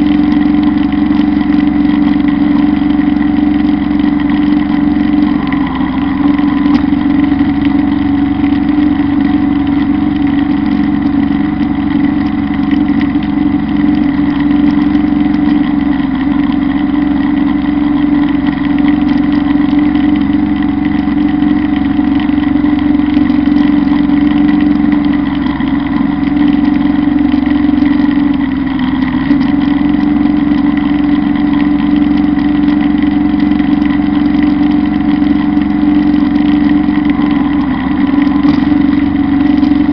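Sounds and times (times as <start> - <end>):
high whine: 0.0 - 39.9
tractor diesel engine under load: 0.0 - 39.9.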